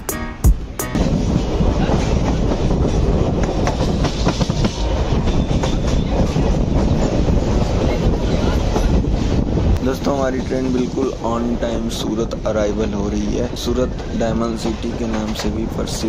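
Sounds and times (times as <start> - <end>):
train wheels clattering over rails: 1.0 - 11.6, 13.7 - 16.0.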